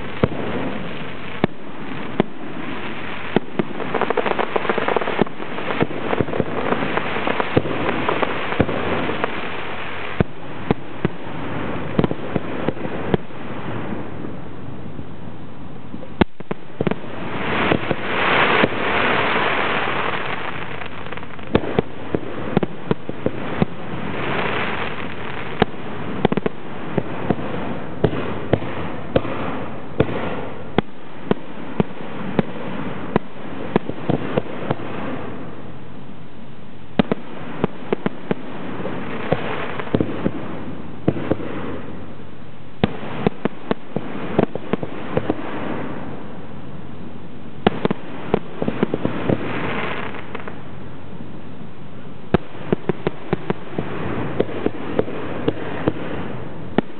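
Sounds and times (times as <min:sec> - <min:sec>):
fireworks bursting: 0:00.0 - 0:15.1, 0:15.9 - 0:36.0, 0:36.7 - 0:56.9
hissing rush of fireworks: 0:00.0 - 0:56.9.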